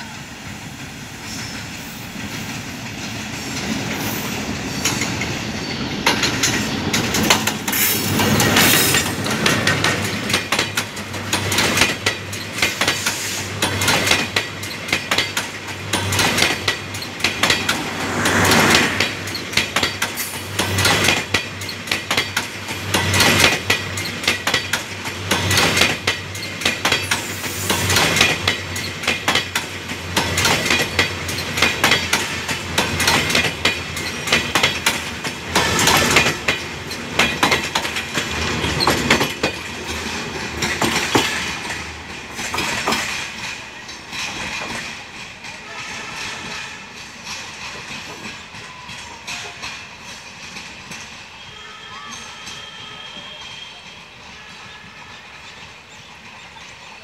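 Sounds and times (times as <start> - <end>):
train wheels clattering over rails: 0.0 - 51.5.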